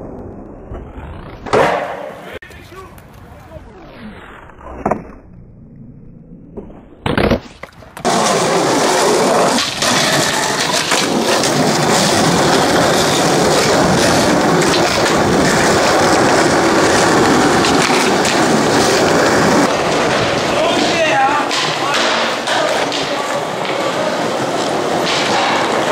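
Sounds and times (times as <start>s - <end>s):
skateboard wheels rolling on paving: 0.0s - 25.9s.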